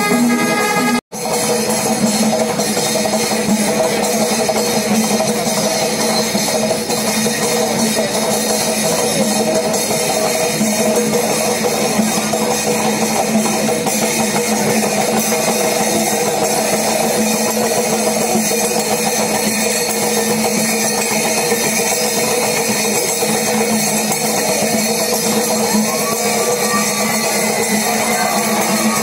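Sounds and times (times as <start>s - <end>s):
crowd noise: 0.0s - 29.0s
percussion music: 0.0s - 29.0s.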